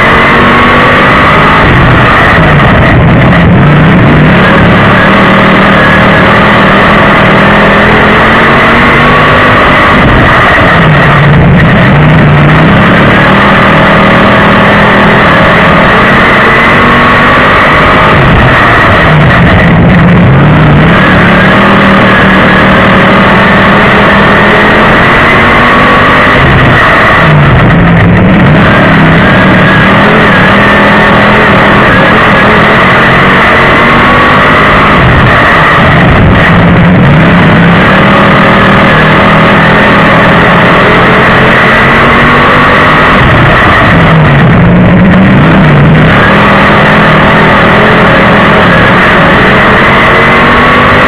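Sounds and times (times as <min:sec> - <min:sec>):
race car engine running hard: 0:00.0 - 0:51.0.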